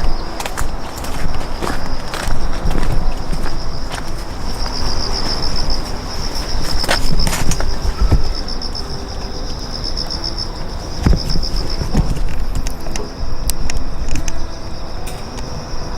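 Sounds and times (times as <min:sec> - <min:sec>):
insect trilling: 0:00.0 - 0:15.9.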